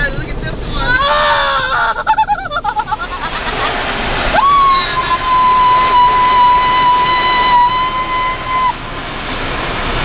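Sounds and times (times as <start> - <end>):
car wash spraying and scrubbing: 0.0 - 10.0.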